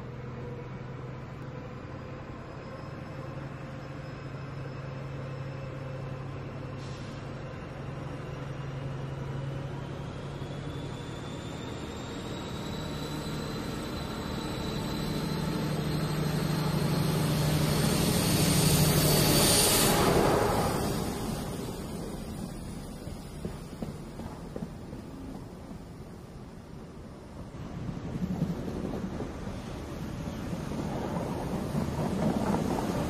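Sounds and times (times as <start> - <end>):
train engine drone: 0.0 - 33.0.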